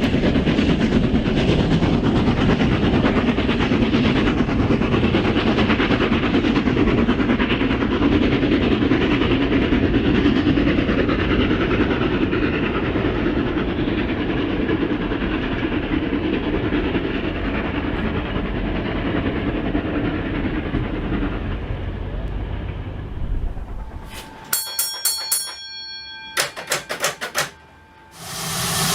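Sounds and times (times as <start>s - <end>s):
train wheels rattling on rails: 0.0s - 28.9s.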